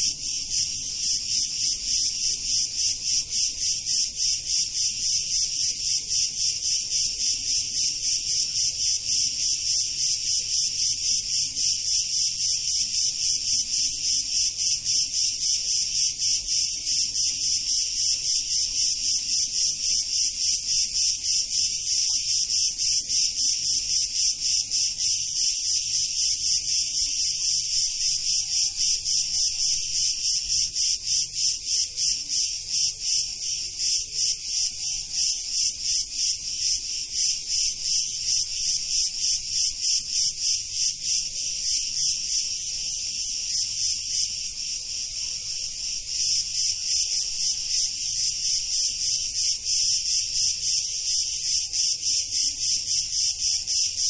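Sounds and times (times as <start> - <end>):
cicadas singing in dense chorus: 0.0 - 54.0.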